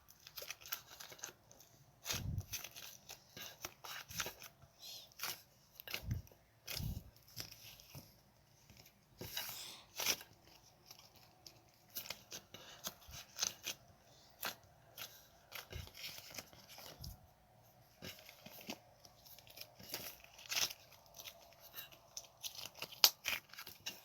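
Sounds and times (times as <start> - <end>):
material clicking and rustling: 0.0 - 24.0.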